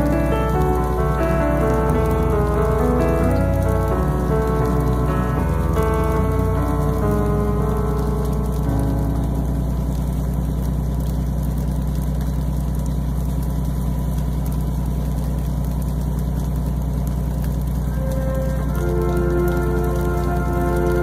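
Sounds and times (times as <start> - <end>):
boat engine droning: 0.0 - 14.8, 17.6 - 21.0.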